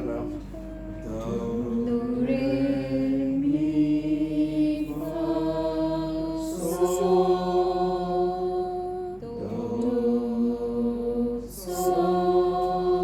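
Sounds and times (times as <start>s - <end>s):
choir singing held notes: 0.0s - 13.0s.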